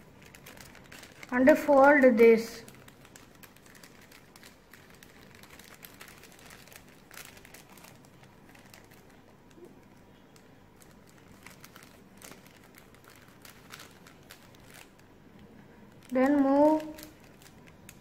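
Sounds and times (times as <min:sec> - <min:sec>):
crisp paper ticks: 0:00.0 - 0:15.0, 0:15.9 - 0:18.0
paper crinkling and rustling: 0:00.0 - 0:18.0.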